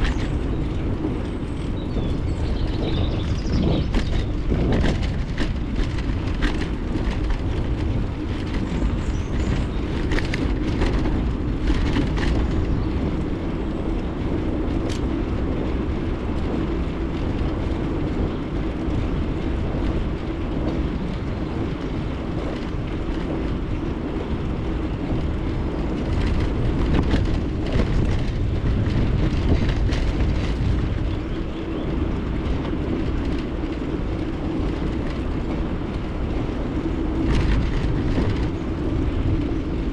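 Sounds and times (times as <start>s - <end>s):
bicycle rattling over bumps: 0.0s - 39.9s
bicycle tyres rolling on road: 0.0s - 39.9s.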